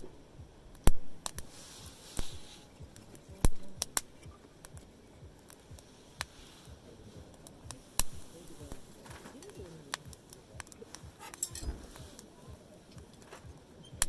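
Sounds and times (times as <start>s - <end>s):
sharp pops: 0.0s - 14.0s
wood campfire crackling: 0.0s - 14.0s
short hiss: 0.8s - 13.6s.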